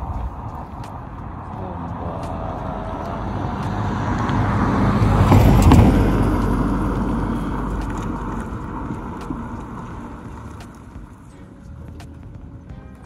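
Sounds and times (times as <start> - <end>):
vehicle driving past: 1.2 - 12.7.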